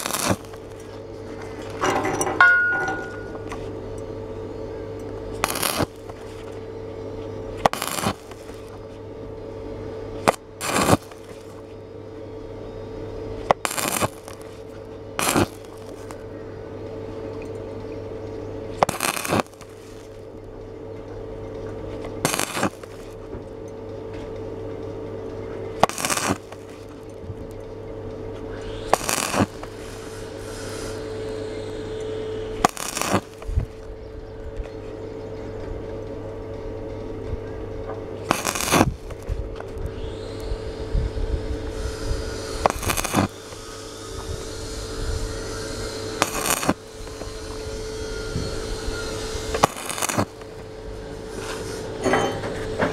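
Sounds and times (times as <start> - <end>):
welding arc crackling: 0.0 - 11.8, 13.1 - 21.4, 22.0 - 23.4, 25.3 - 36.2, 38.0 - 52.1
steady hum: 0.0 - 52.9.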